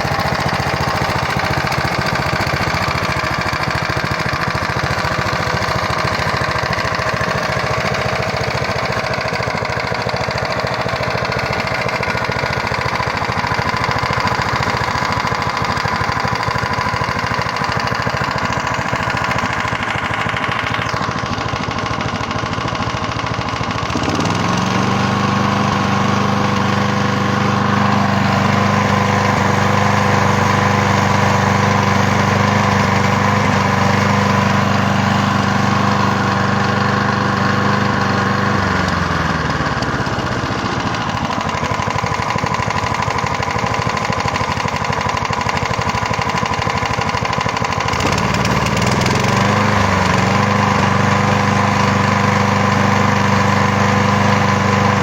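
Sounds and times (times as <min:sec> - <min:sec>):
lawnmower engine running: 0:00.0 - 0:55.0.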